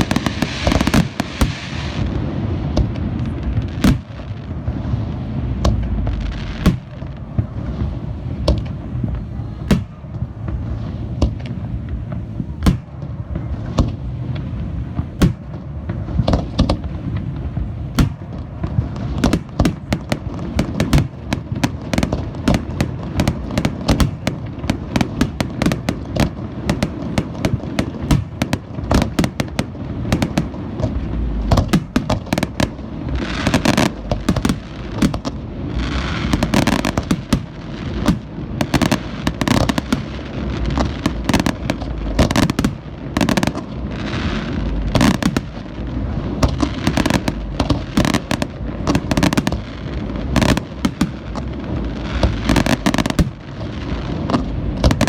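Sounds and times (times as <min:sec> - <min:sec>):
firework bursts and booms: 0:00.0 - 0:55.0
fireworks crackling: 0:00.0 - 0:55.0.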